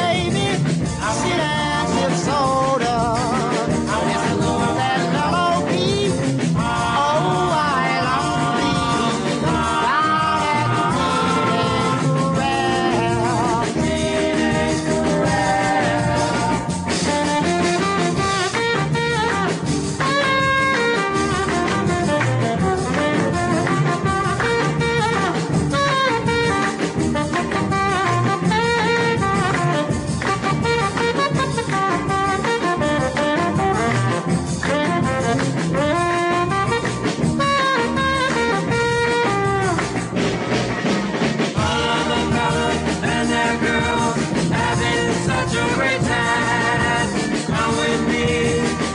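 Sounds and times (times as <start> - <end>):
band with horns and drums: 0.0 - 48.9.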